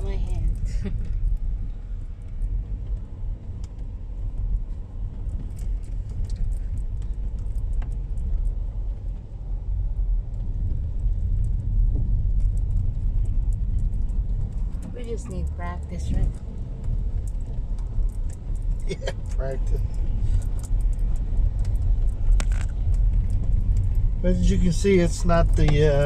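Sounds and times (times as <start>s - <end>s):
tyres rumbling on dirt road: 0.0s - 26.0s.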